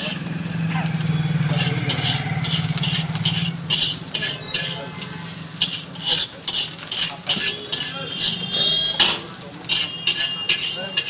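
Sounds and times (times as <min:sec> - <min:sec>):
metal spatula scraping wok: 0:01.0 - 0:11.0.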